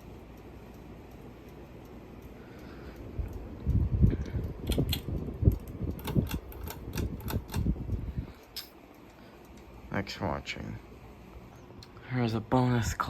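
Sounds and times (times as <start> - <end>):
wobbling ceiling fan rattling: 0.0 - 11.1.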